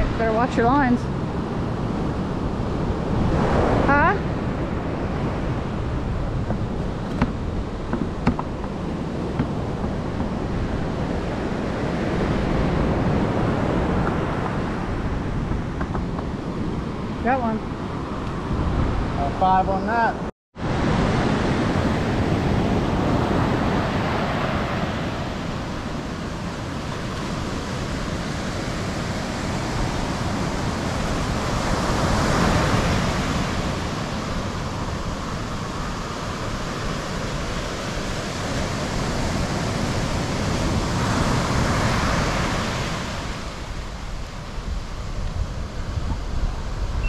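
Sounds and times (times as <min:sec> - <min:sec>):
ocean surf breaking: 0:00.0 - 0:47.0
wind rumbling on microphone: 0:00.0 - 0:47.0.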